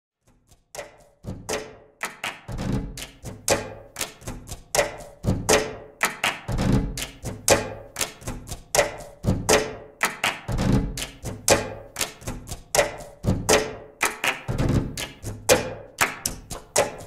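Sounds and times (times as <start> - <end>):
hands clapping: 0.8 - 17.0.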